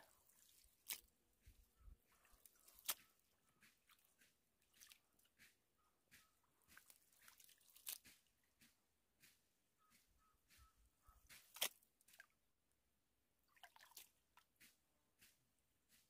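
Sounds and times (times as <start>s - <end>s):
water splashes and drips: 0.0s - 12.5s, 13.4s - 16.0s.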